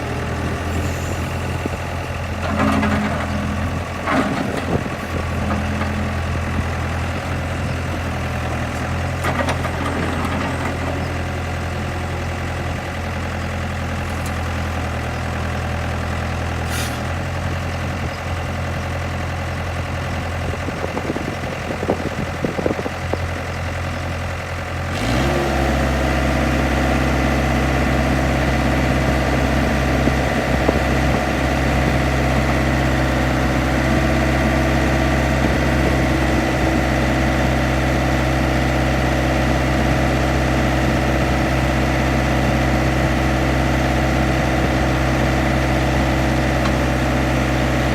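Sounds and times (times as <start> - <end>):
diesel engine idling and revving: 0.0 - 47.9.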